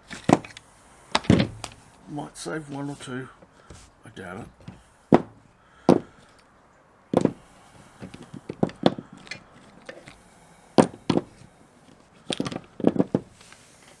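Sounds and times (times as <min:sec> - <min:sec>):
hard parts clicking and knocking: 0:00.0 - 0:02.1, 0:02.7 - 0:06.5, 0:07.1 - 0:14.0.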